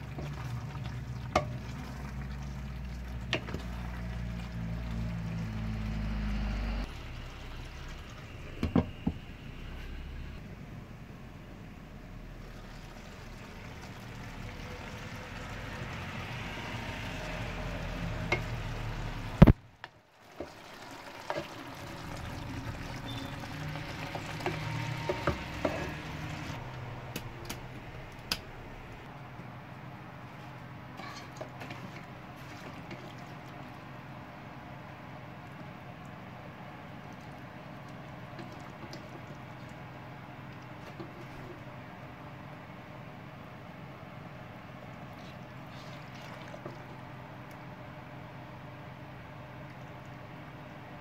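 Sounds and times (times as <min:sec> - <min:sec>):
pasta bubbling in a pot: 0:00.0 - 0:06.2, 0:12.3 - 0:26.8, 0:30.0 - 0:51.0.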